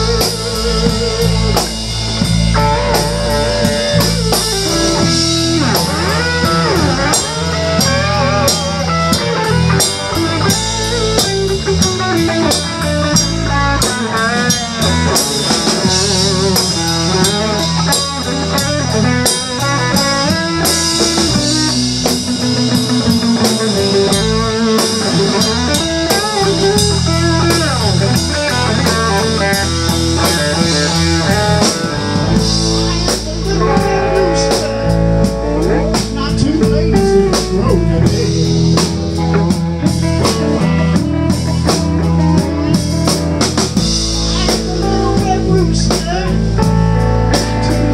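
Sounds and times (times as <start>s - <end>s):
blues band playing: 0.0s - 47.9s
lead guitar with bending notes: 0.0s - 47.9s.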